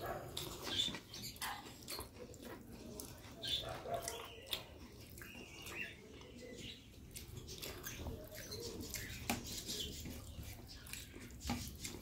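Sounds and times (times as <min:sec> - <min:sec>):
fingers squishing food: 0:00.0 - 0:12.0.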